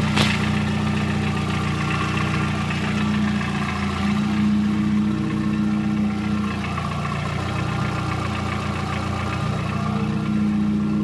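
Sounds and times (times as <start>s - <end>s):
car engine idling: 0.0s - 11.0s
loose clacking under idle: 0.0s - 11.0s.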